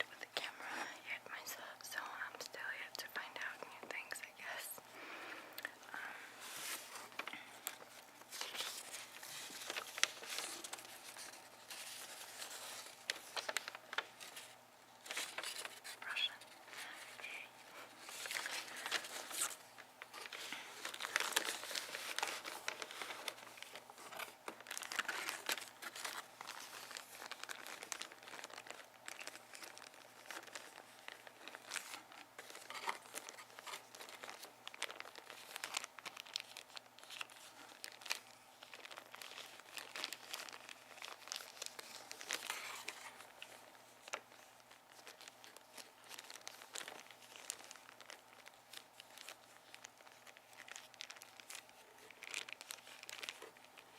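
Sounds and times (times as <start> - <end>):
packaging crumpling: 5.6 - 53.9.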